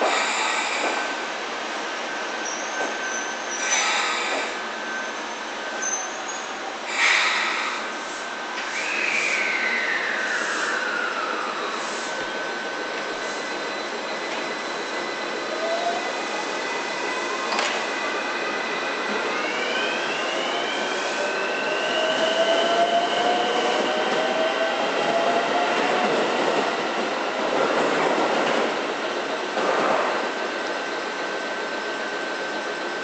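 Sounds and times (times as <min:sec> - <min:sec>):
rail noise: 0:00.0 - 0:33.0
electric train motor whine: 0:00.2 - 0:27.9.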